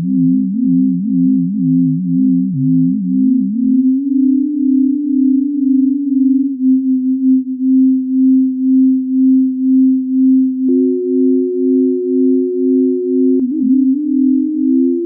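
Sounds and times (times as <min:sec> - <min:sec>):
low electronic tone: 0:00.0 - 0:15.0.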